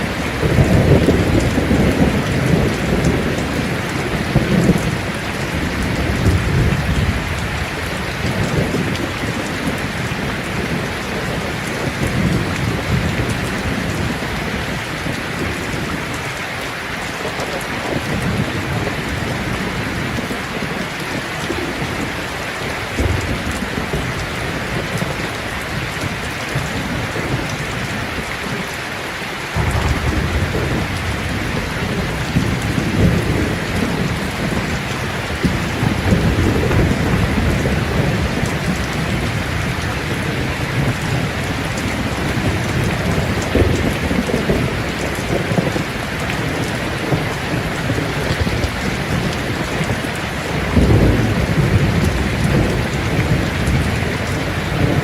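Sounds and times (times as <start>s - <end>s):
thunder rumbling: 0.0s - 16.3s, 17.3s - 28.8s, 29.5s - 55.0s
steady rain falling: 0.0s - 55.0s.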